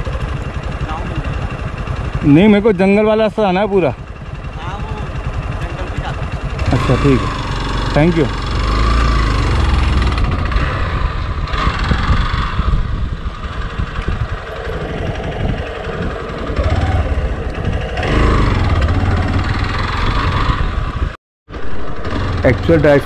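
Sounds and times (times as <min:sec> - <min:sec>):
motorcycle engine running: 0:00.0 - 0:23.0
rumbling buffeting background: 0:00.0 - 0:23.0.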